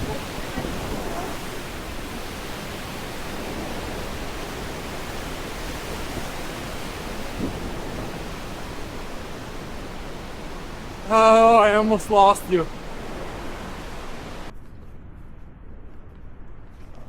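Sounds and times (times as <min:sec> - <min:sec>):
tyre and wind noise: 0:00.0 - 0:17.0.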